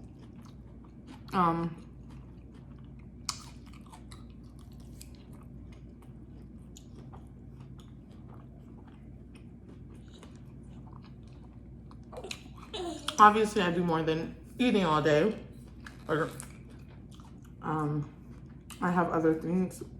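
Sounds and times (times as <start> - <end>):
person chewing food: 0.0 - 13.2, 15.5 - 18.8
low steady hum: 0.0 - 19.9.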